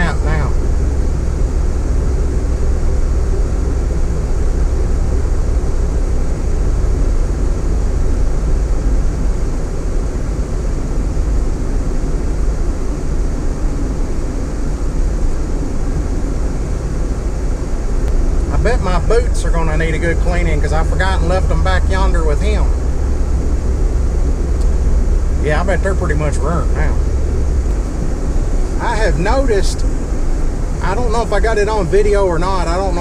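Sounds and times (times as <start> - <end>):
vehicle road and engine rumble: 0.0 - 33.0.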